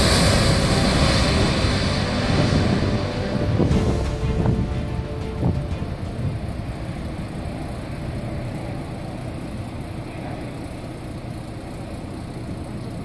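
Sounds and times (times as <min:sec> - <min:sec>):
jet airliner rumble: 0:00.0 - 0:13.0.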